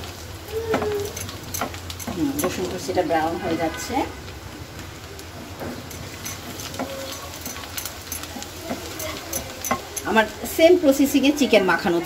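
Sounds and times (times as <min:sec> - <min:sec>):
garlic sizzling in a pan: 0:00.0 - 0:12.0.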